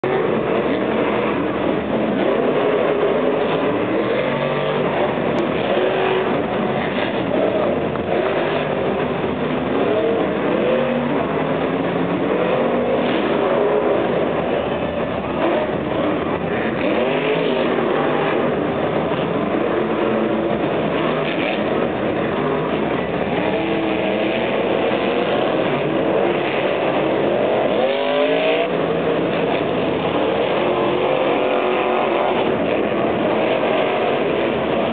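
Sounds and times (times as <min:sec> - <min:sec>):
monster truck engines revving: 0:00.0 - 0:34.9.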